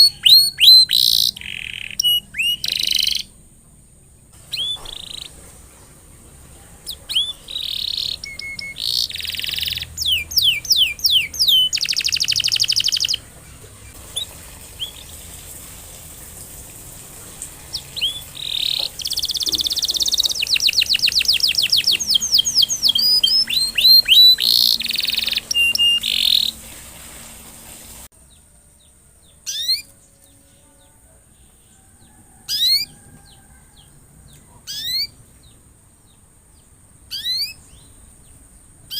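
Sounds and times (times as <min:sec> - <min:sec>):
canary singing: 0:00.0 - 0:05.6, 0:06.5 - 0:15.4, 0:17.6 - 0:26.7, 0:28.2 - 0:38.9
canary chirps: 0:00.0 - 0:15.4, 0:17.2 - 0:26.7, 0:28.2 - 0:38.9.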